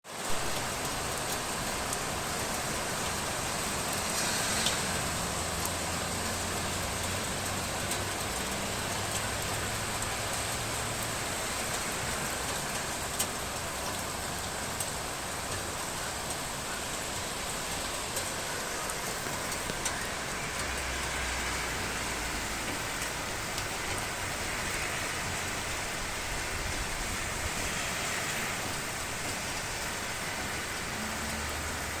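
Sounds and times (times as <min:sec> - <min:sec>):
steady rain falling: 0:00.0 - 0:32.0
raindrop ticks: 0:00.5 - 0:25.4, 0:27.7 - 0:32.0.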